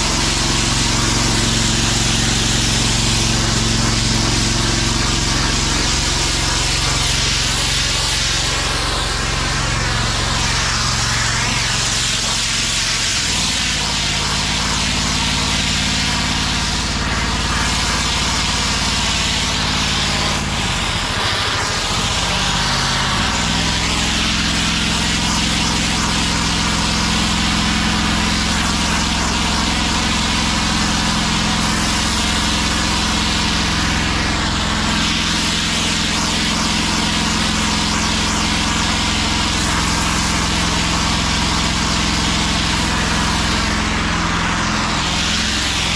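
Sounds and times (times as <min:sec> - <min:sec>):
gas engine running: 0:00.0 - 0:45.9
high-pressure water spraying: 0:00.0 - 0:45.9.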